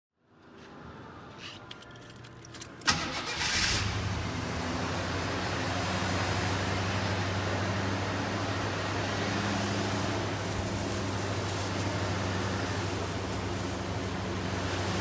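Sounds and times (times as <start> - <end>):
car engine starting and idling: 2.8 - 15.0.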